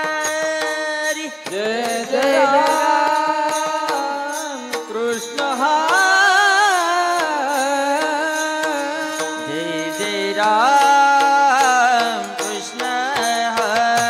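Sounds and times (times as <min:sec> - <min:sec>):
instrumental accompaniment: 0:00.0 - 0:14.0
man singing devotional song: 0:00.0 - 0:14.0.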